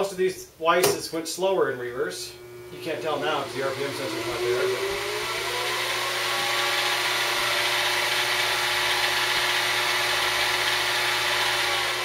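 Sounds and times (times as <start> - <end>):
milling machine motor whining: 2.3 - 12.0.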